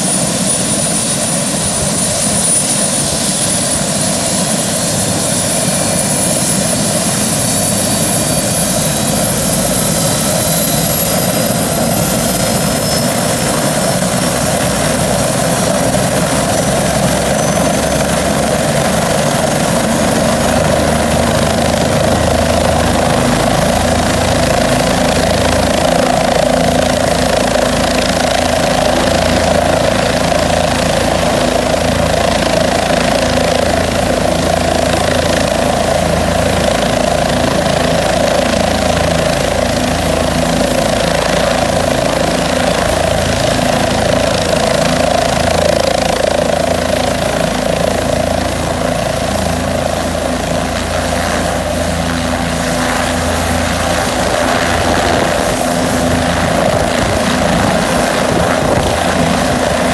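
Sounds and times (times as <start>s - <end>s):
helicopter rotor and engine: 0.0s - 59.9s
high turbine whine: 0.0s - 59.9s.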